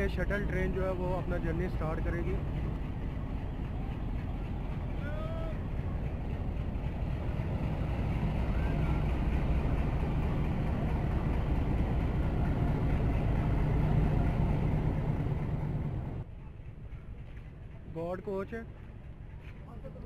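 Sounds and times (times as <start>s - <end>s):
locomotive engine droning: 0.0s - 20.0s.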